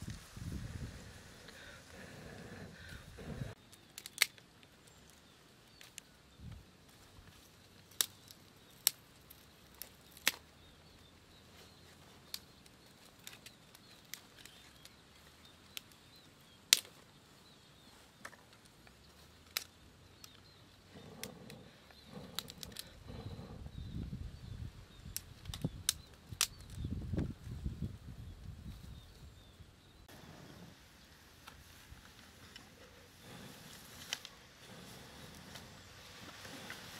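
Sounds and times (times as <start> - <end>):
twig fire crackling and popping: 0.0 - 29.1, 31.4 - 36.9.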